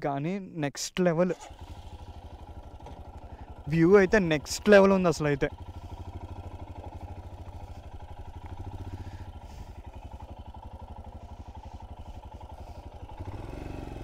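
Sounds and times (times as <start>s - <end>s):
motorcycle engine running: 1.3s - 14.0s.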